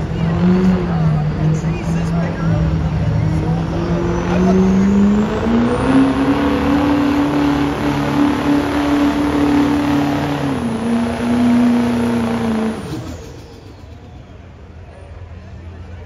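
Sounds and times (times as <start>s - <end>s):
diesel truck engine at high revs: 0.0s - 16.0s.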